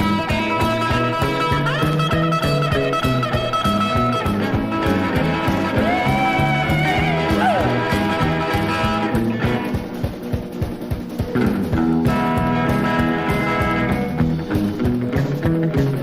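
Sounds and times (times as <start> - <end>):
rock and roll band instrumental: 0.0 - 16.0.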